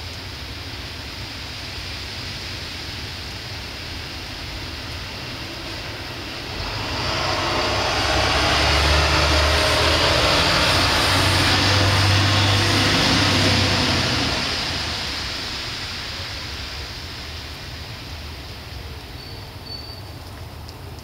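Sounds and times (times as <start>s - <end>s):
tyre hiss on wet street: 0.0s - 21.0s
large vehicle engine rumble: 3.8s - 21.0s.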